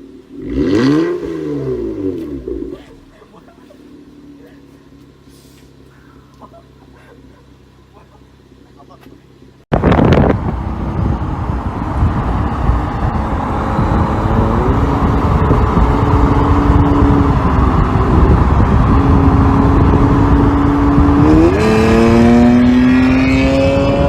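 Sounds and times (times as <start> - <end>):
car engine revving: 0.0 - 6.5, 9.8 - 24.0.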